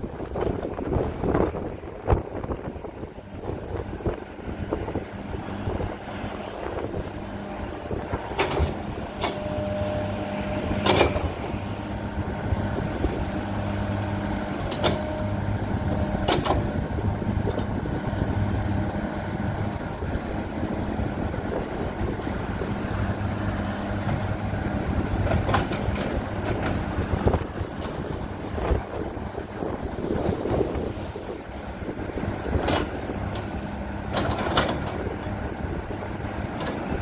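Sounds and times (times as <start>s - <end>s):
excavator diesel engine running: 0.0s - 37.0s
hydraulic whines: 4.7s - 19.7s, 20.4s - 37.0s.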